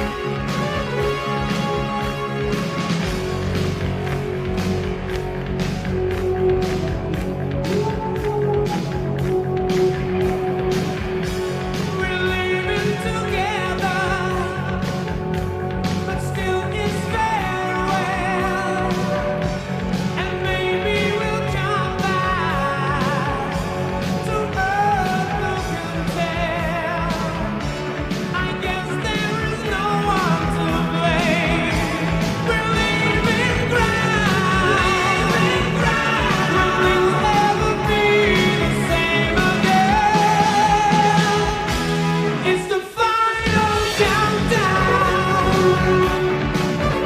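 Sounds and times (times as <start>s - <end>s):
pop song with sung vocal: 0.0s - 47.0s.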